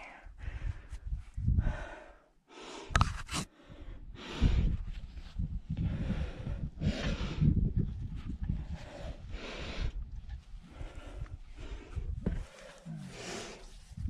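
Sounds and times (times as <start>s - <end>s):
person breathing hard: 0.0s - 4.9s, 5.7s - 7.7s, 8.5s - 14.0s.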